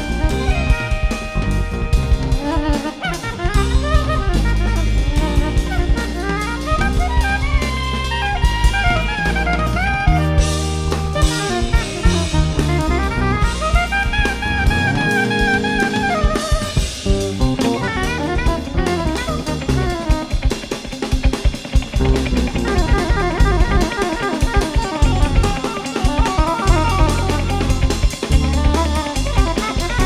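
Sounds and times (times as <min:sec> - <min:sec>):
drum kit: 0:00.0 - 0:30.0
jazz band playing: 0:00.0 - 0:30.0.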